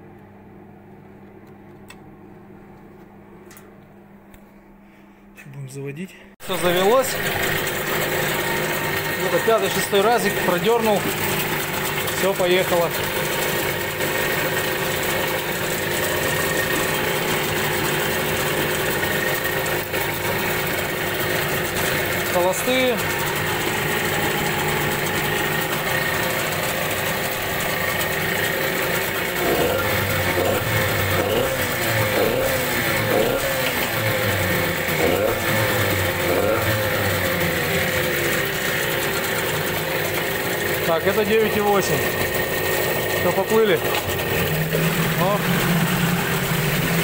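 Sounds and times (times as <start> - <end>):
outboard motor idling: 6.4 - 47.0.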